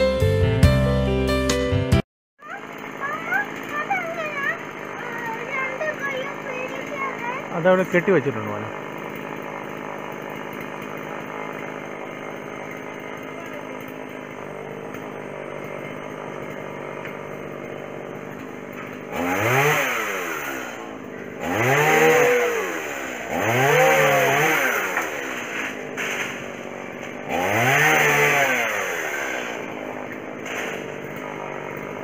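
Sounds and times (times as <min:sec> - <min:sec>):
chainsaw idling and revving: 0:02.4 - 0:32.0.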